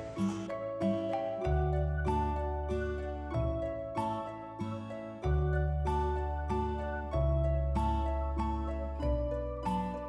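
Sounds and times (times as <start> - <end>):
gentle plucked tune: 0.0 - 10.0.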